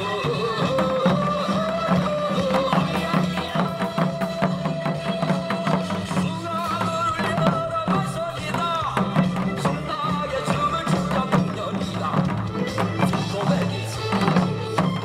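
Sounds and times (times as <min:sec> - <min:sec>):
hourglass drums played in rhythm: 0:00.0 - 0:15.0.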